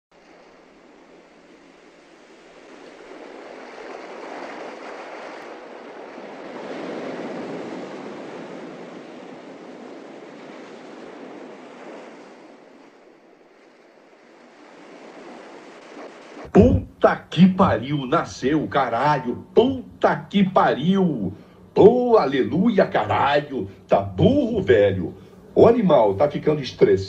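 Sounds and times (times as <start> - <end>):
surf washing onto sandy beach: 0.1 - 27.0.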